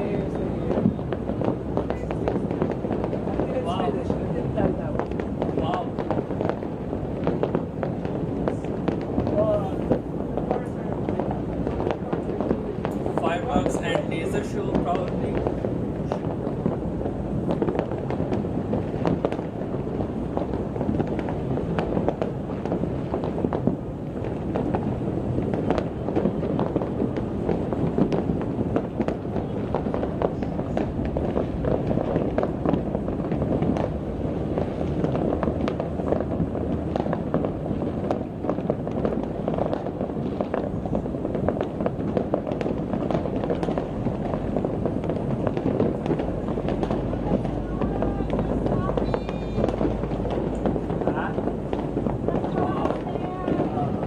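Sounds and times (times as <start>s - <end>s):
fireworks popping and banging: 0.0s - 54.0s
steady low rumble: 0.0s - 54.0s.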